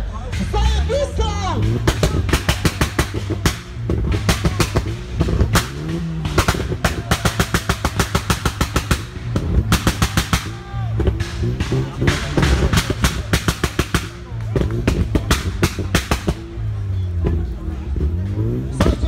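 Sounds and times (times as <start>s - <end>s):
car engine on rev limiter: 0.0s - 19.0s
exhaust bangs and pops: 0.0s - 19.0s.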